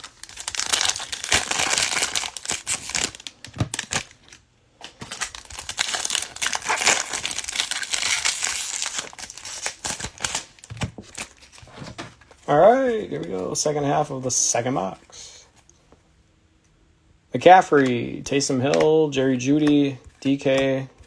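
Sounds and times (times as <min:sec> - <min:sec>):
card pack wrappers crinkling: 0:00.0 - 0:15.0, 0:17.7 - 0:21.0.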